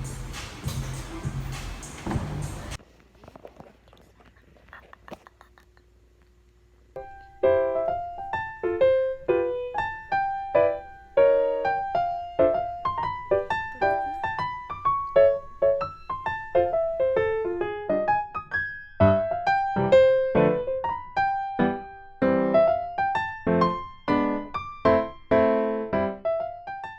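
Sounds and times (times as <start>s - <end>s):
piano melody: 0.0s - 2.8s, 7.0s - 26.9s.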